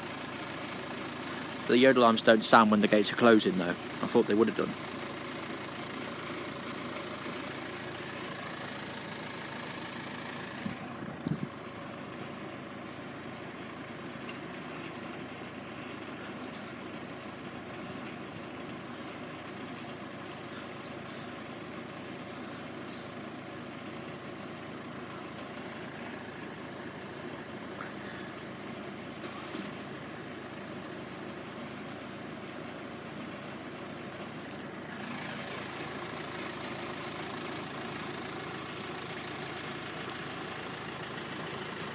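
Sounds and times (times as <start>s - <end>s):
diesel engines idling: 0.0s - 41.9s.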